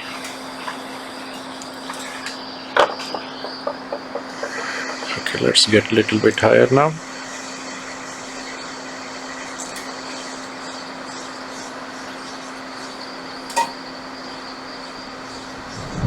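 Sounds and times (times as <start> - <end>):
hot air station blowing: 0.0 - 16.0.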